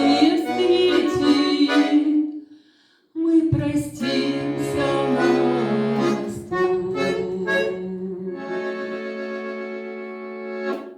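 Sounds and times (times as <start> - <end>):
accordion playing chords: 0.0 - 2.3, 3.7 - 10.9.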